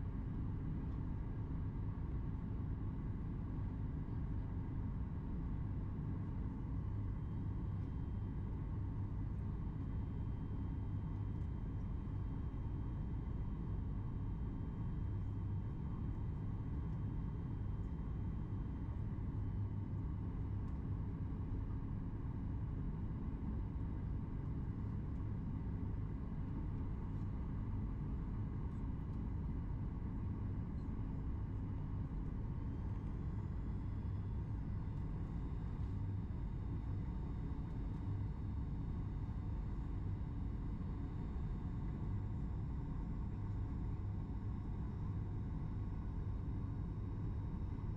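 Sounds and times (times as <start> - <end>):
faint engine whine: 0.0 - 47.9.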